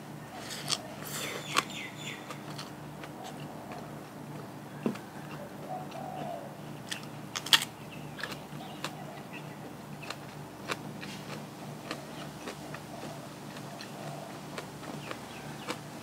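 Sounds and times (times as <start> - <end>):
chewing with crunches: 0.3 - 16.0.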